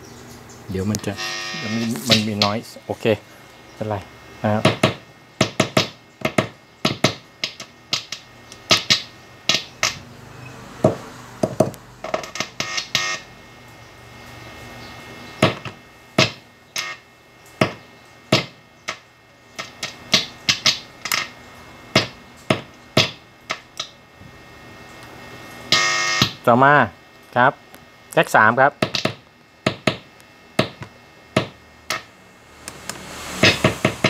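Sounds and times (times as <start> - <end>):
faint amplifier hum: 0.0 - 34.0.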